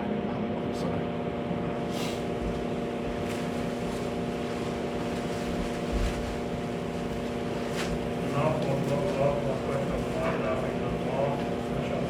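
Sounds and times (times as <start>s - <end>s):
machine hum with steady tones: 0.0s - 12.0s.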